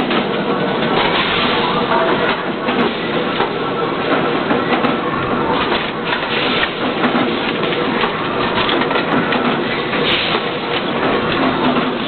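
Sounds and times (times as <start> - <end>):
machinery noise: 0.0 - 12.0.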